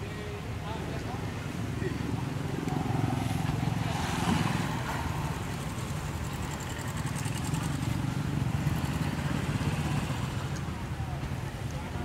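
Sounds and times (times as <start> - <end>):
vehicle engine rumbling: 1.5 - 11.6.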